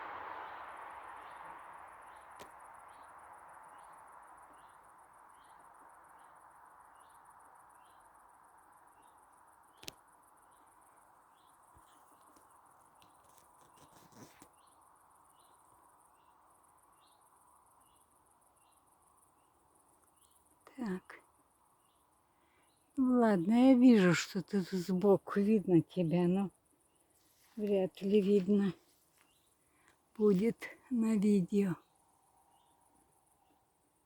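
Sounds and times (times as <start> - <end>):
insect chorus: 0.0 - 34.0.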